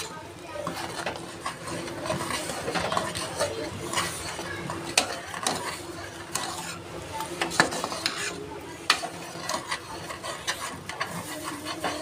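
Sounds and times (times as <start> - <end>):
metal spoon scraping a pot: 0.6 - 6.8, 7.4 - 12.0.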